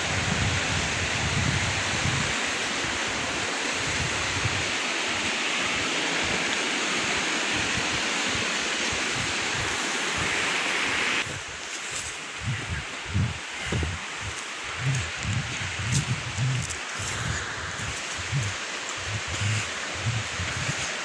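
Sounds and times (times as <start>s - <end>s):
wind buffeting microphone: 0.0s - 10.5s, 11.2s - 21.0s
river water rushing: 0.0s - 21.0s.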